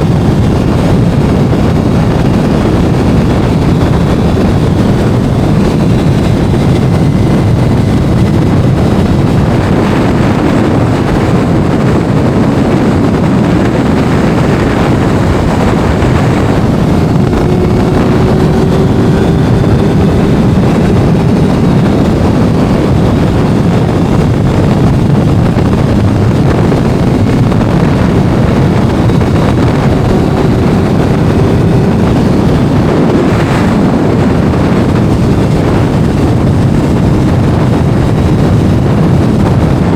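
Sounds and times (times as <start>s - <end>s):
faint motorcycle engine: 0.0s - 39.9s
wind buffeting microphone: 0.0s - 39.9s.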